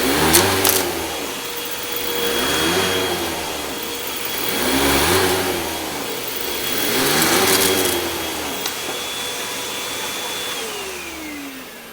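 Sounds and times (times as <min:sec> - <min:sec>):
vacuum cleaner motor whine: 0:00.0 - 0:11.9.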